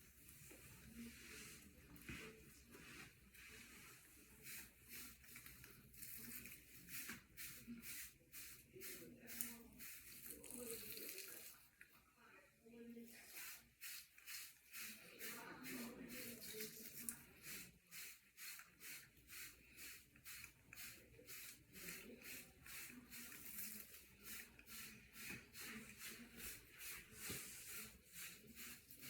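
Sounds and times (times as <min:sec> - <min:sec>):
hair brush stroking through hair: 0:00.1 - 0:11.5, 0:13.1 - 0:29.0.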